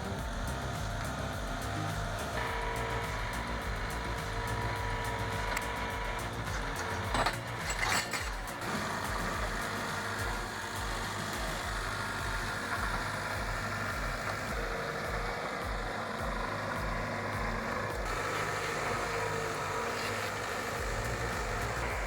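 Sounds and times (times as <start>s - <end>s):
heavy vehicle engine running: 0.0s - 22.0s.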